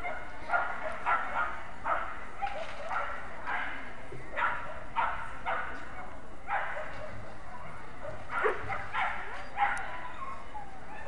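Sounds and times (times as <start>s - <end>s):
dog barking: 0.0s - 7.3s, 8.0s - 10.1s.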